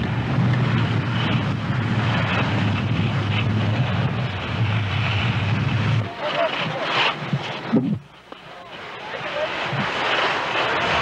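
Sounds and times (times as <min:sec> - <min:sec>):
wind buffeting microphone: 0:00.0 - 0:08.2, 0:08.9 - 0:11.0.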